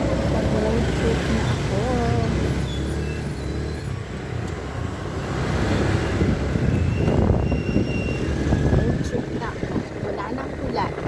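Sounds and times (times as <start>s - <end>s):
motorcycle engine and road rumble: 0.0s - 11.0s.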